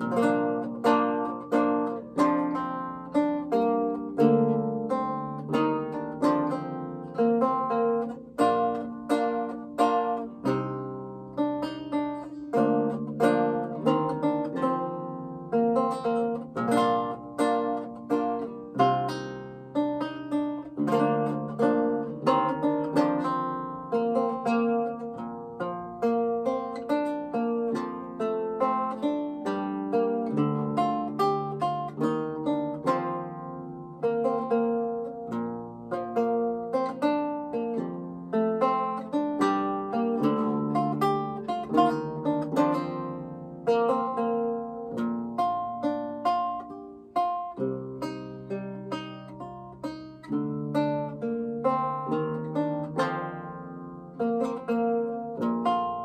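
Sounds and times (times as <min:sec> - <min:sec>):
solo lute playing: 0:00.0 - 0:56.0.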